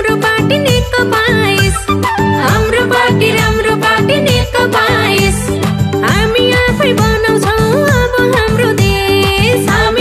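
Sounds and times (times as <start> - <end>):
campaign song with steady beat: 0.0 - 10.0.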